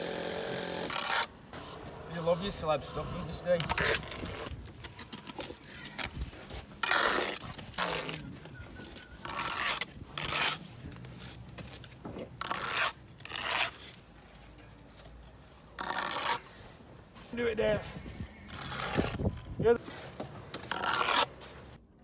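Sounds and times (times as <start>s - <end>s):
trowel scraping wet mortar: 0.2s - 14.1s, 15.8s - 16.6s, 18.2s - 21.8s.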